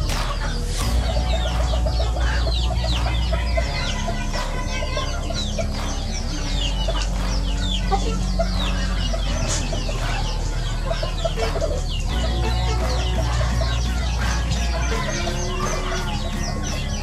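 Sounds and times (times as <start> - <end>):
chicks peeping: 0.0 - 17.0
hens clucking: 0.0 - 17.0.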